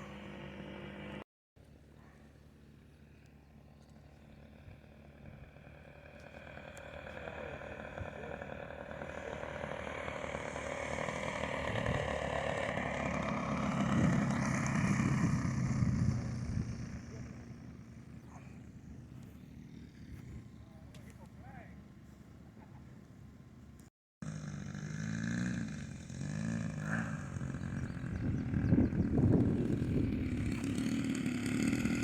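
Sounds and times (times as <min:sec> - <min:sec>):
model airplane flying past: 0:00.0 - 0:32.0.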